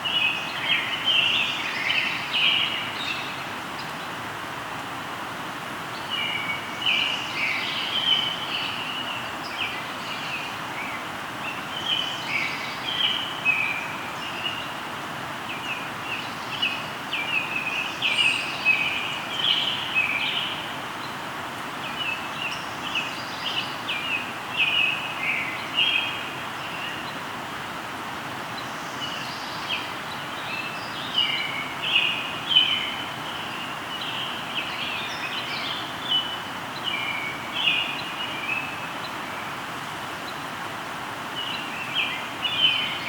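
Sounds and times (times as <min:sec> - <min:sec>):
river flowing: 0:00.0 - 0:43.0
birds chirping: 0:05.8 - 0:27.3, 0:28.4 - 0:40.5, 0:41.3 - 0:43.0.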